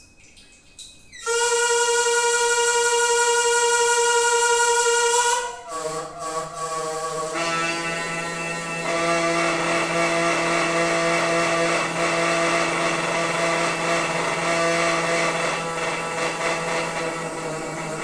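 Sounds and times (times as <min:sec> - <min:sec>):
water pipe humming: 0:00.0 - 0:18.0.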